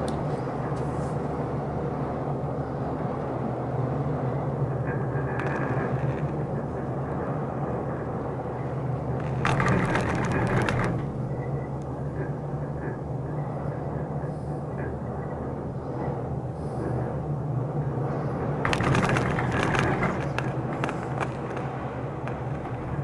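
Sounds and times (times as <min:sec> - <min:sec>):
gondola cabin humming: 0:00.0 - 0:23.0
gondola rattling clatter: 0:00.0 - 0:23.0.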